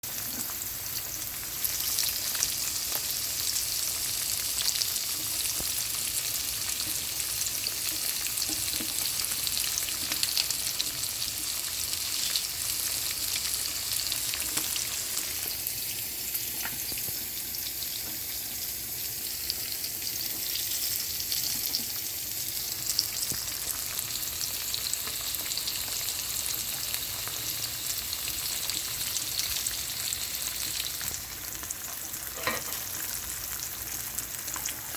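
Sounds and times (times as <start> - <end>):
fish frying in oil: 0.0 - 34.9.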